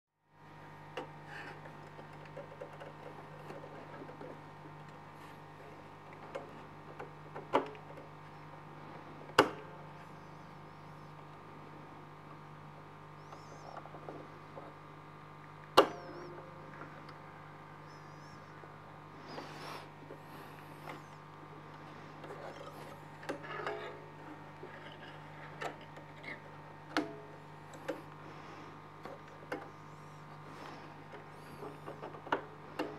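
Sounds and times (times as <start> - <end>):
faint steady hum: 0.2 - 32.9.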